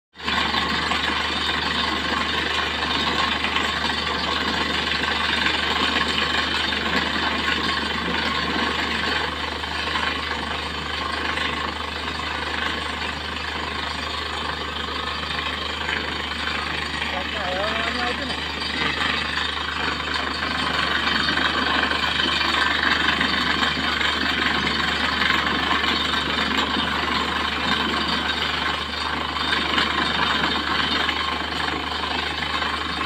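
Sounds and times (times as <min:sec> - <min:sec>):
drilling rig engine hum: 0:00.2 - 0:33.0
water column blasting and spraying: 0:00.2 - 0:33.0.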